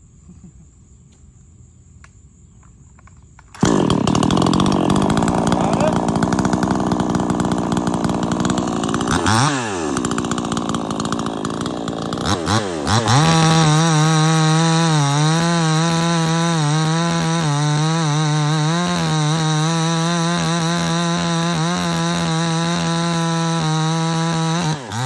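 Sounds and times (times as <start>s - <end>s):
chainsaw engine revving: 3.5s - 25.0s.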